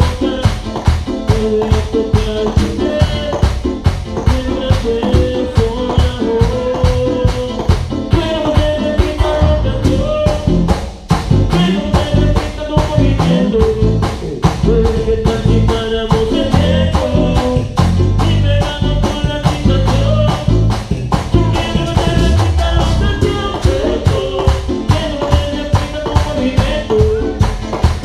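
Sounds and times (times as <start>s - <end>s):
band playing instrumental: 0.0s - 28.0s
heavy bass line: 0.0s - 28.0s.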